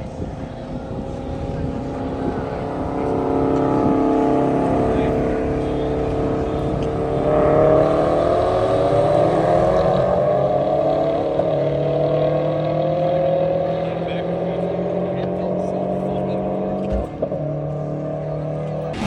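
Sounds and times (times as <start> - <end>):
vehicle engine running: 0.0 - 12.3, 13.8 - 19.0.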